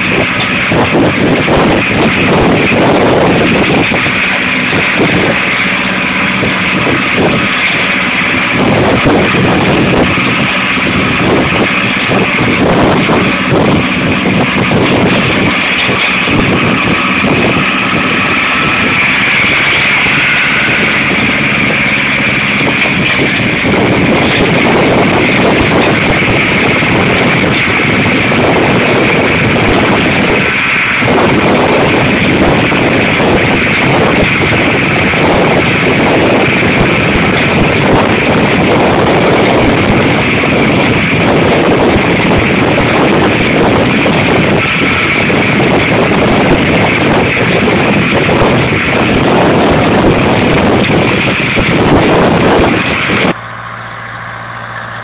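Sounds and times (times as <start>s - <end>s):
tractor diesel engine running: 0.0s - 55.0s
wind noise on microphone: 0.0s - 55.0s.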